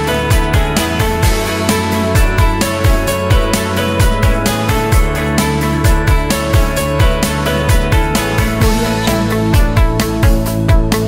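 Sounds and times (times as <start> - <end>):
kick drum: 0.0 - 11.0.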